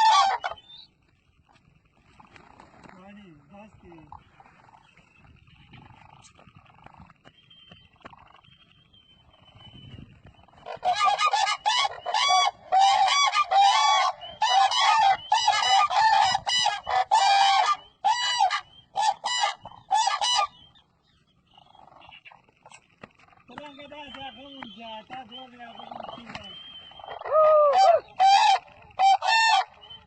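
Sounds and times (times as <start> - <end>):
cranes calling: 0.0 - 30.0.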